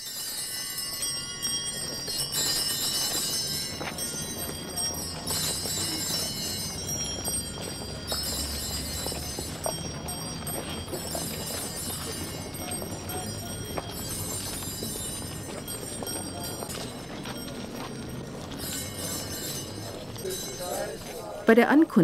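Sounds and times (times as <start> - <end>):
bells ringing: 0.0 - 22.0
footsteps of walking crowd: 0.0 - 22.0.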